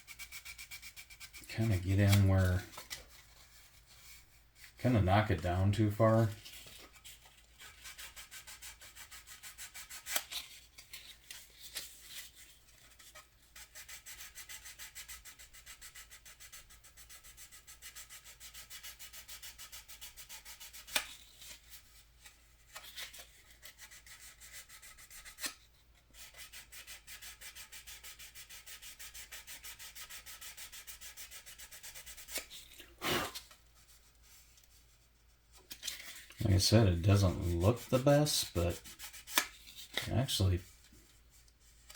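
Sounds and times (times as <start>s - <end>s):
sandpaper scratching plastic: 0.0s - 41.9s.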